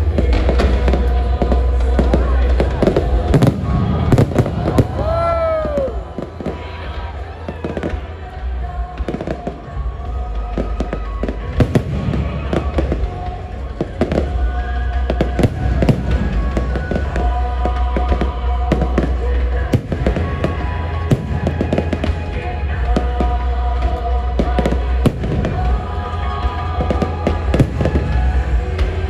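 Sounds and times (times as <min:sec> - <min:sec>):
fireworks bursting: 0:00.0 - 0:29.0
music: 0:00.0 - 0:29.0
voices: 0:00.0 - 0:29.0.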